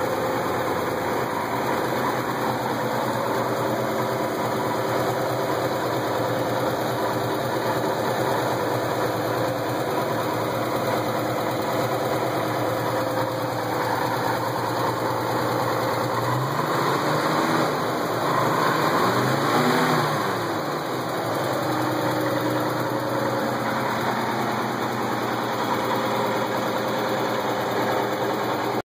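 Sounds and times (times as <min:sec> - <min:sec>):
pickup engine idling and revving: 0:00.0 - 0:28.8.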